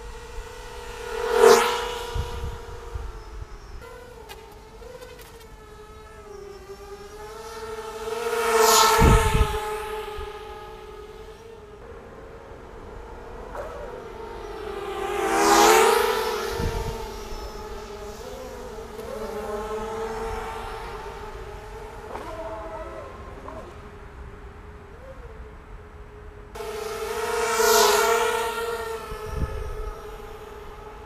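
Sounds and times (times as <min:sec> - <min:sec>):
quadcopter motors buzzing: 0:00.0 - 0:31.0.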